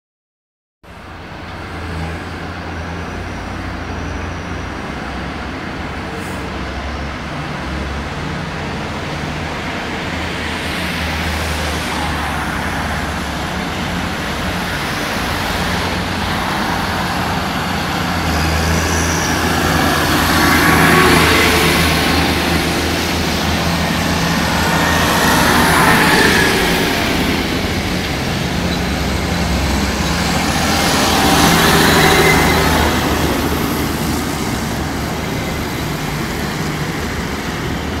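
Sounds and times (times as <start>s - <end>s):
tractor diesel engines: 0.9s - 38.0s.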